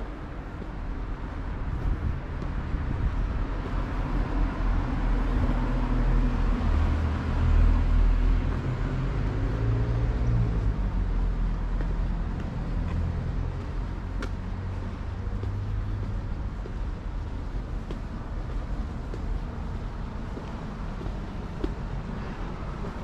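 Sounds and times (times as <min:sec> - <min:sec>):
street noise: 0:00.0 - 0:23.0.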